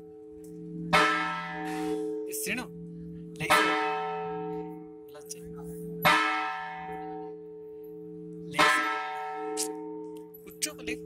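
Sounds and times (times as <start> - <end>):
large temple bell ringing: 0.0 - 11.0.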